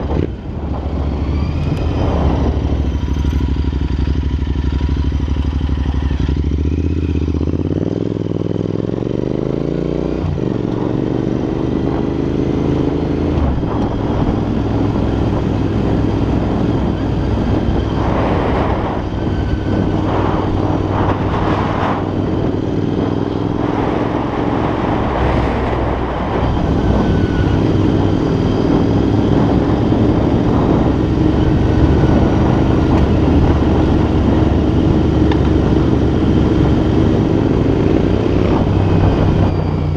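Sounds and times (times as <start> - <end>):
motorcycle engine revving: 0.0 - 39.9
wind buffeting microphone: 0.0 - 39.9.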